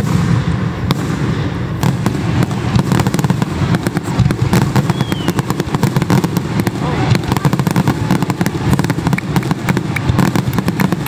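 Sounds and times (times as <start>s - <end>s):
fireworks booms: 0.0s - 11.0s
fireworks popping and crackling: 0.0s - 11.0s.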